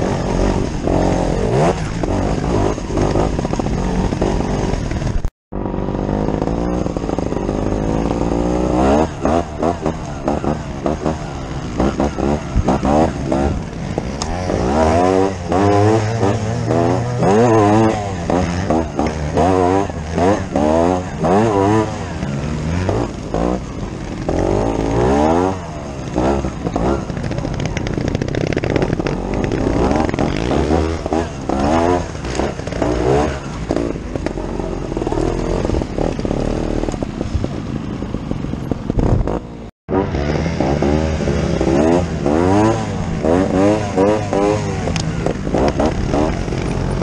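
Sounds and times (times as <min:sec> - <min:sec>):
motorcycle engine revving: 0:00.0 - 0:47.0
other motorcycles running: 0:00.0 - 0:47.0.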